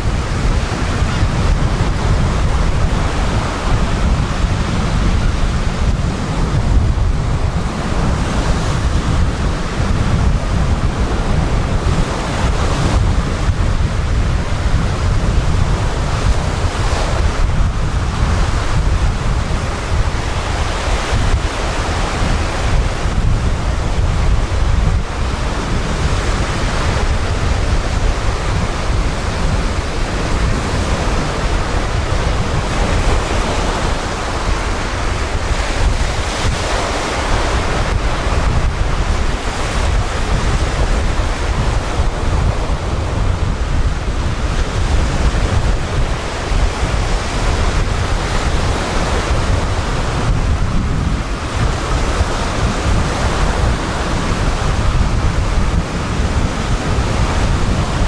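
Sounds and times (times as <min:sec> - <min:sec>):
surf breaking on a shingle beach: 0:00.0 - 0:58.0
wind buffeting microphone: 0:00.0 - 0:58.0.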